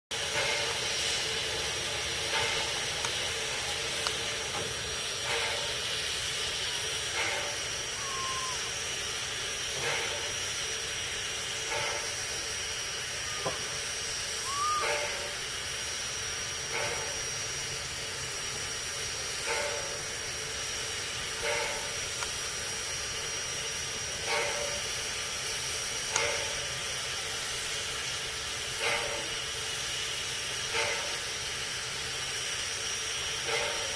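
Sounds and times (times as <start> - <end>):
steam locomotive hissing: 0.1 - 33.9
steam puffs: 0.2 - 33.9.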